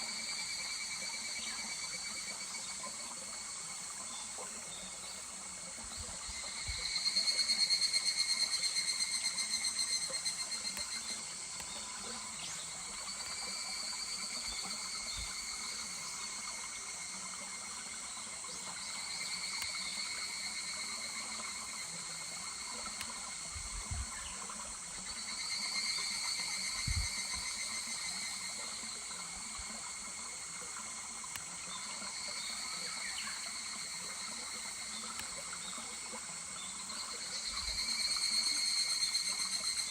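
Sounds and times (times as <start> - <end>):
babbling stream: 0.0 - 39.9
cicadas trilling: 0.0 - 39.9.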